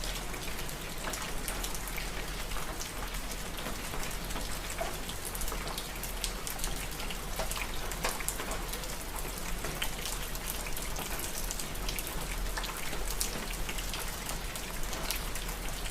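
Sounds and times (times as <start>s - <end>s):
rain drops ticking: 0.0s - 15.9s.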